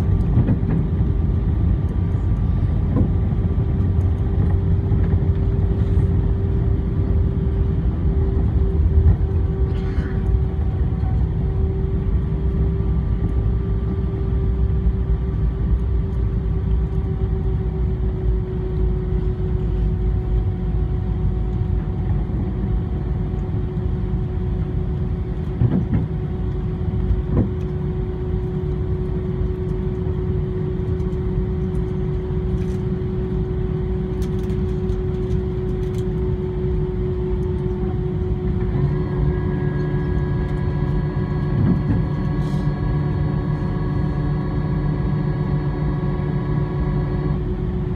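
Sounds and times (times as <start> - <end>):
jet engine hum: 0.0 - 47.9
wheels rumbling on runway: 0.0 - 47.9.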